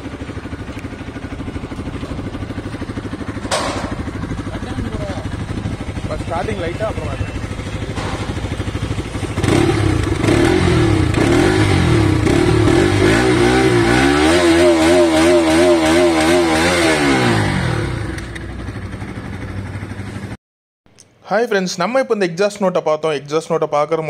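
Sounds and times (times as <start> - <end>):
motorcycle engine idling and revving: 0.0 - 20.4.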